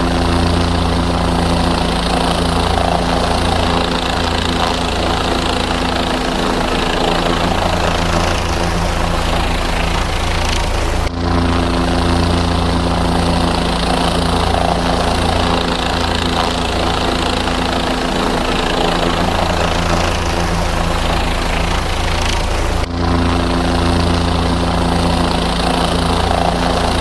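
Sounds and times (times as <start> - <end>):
helicopter engine and rotor: 0.0 - 27.0.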